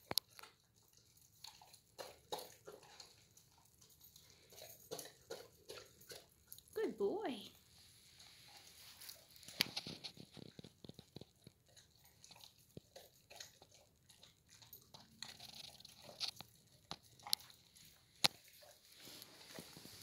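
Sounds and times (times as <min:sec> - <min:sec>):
puppy chewing meat: 0:00.0 - 0:06.8, 0:07.5 - 0:20.0.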